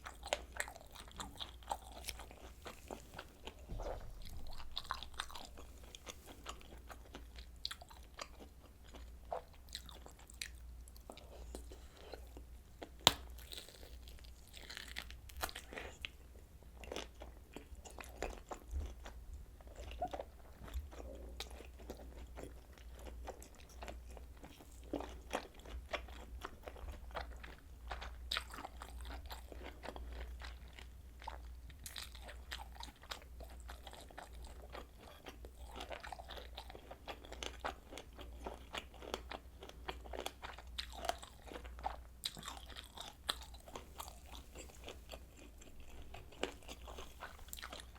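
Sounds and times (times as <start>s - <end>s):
biting and chewing sausage: 0.0s - 47.9s.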